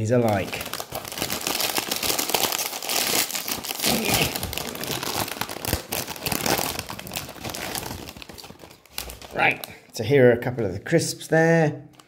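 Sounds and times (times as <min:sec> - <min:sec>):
plastic crisp packet crinkling: 0:00.0 - 0:09.9.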